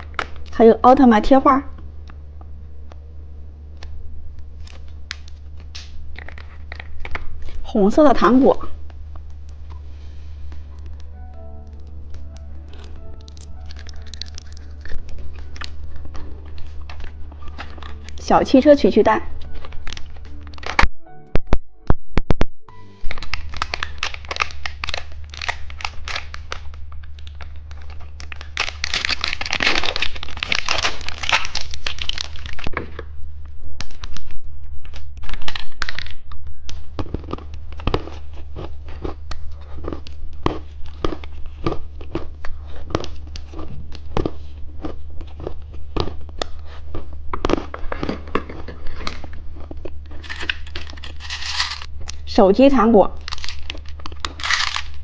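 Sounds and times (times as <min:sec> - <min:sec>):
plastic packaging crinkling: 0:00.0 - 0:00.6, 0:04.6 - 0:09.8, 0:10.7 - 0:20.9, 0:22.8 - 0:33.1, 0:33.8 - 0:52.3, 0:53.1 - 0:55.0
steady low hum: 0:00.0 - 0:55.0.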